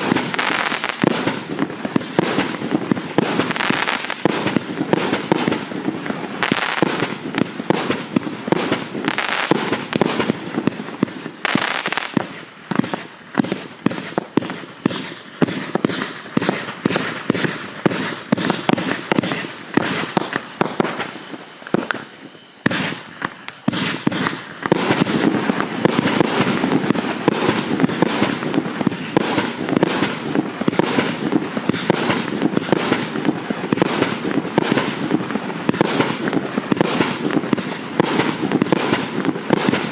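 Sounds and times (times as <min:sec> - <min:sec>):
crackling fireworks stars: 0:00.0 - 0:39.9
fireworks launch thumps and bursts: 0:00.0 - 0:39.9.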